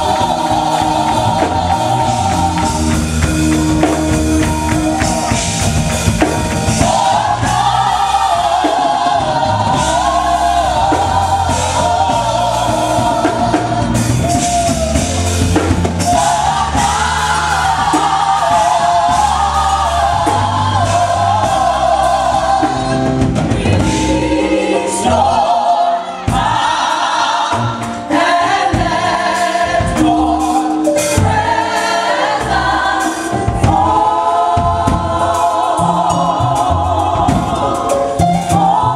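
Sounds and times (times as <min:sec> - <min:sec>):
drum beat: 0:00.0 - 0:25.4, 0:26.3 - 0:38.9
bass: 0:00.0 - 0:38.9
gospel choir singing: 0:00.0 - 0:38.9.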